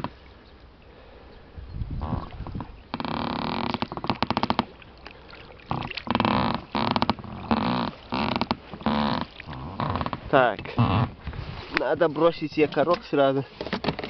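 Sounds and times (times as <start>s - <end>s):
oarlocks creaking: 1.9s - 14.0s.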